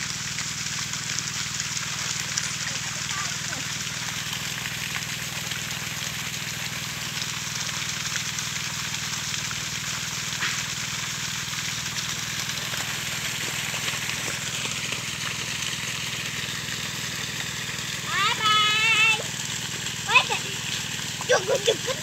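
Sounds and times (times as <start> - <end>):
outdoor hiss: 0.0 - 22.0.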